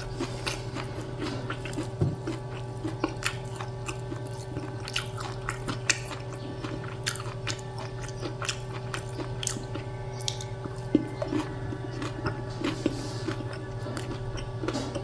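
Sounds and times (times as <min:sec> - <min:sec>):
person chewing food: 0:00.0 - 0:15.0
steady low hum: 0:00.0 - 0:15.0.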